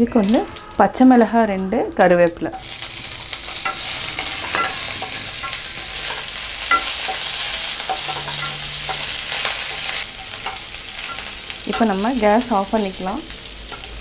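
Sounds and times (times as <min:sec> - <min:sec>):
spices frying in hot oil: 0:00.0 - 0:14.0.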